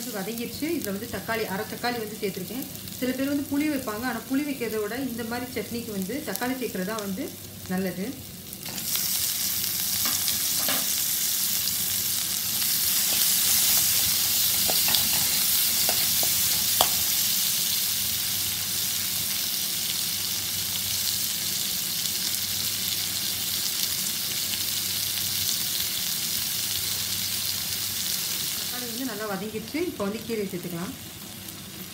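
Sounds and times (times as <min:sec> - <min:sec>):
food sizzling in hot oil: 0:00.0 - 0:31.9.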